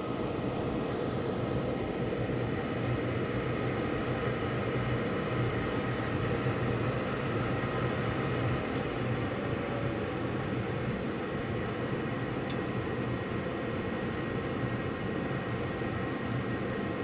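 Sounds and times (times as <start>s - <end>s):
gas furnace humming: 2.2s - 17.0s.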